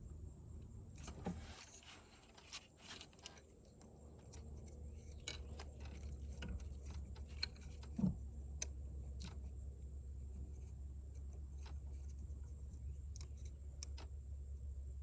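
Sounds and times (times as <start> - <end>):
steady low hum: 0.0 - 15.0
light clicks and taps of tools: 1.0 - 9.6, 10.3 - 14.1.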